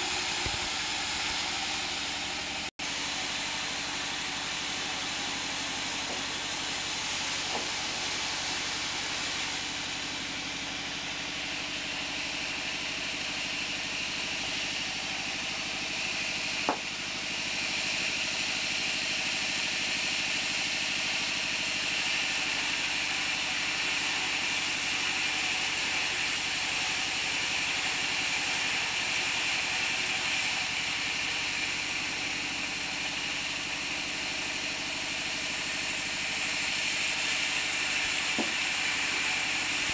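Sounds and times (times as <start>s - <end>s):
band saw whirring: 0.0s - 39.9s.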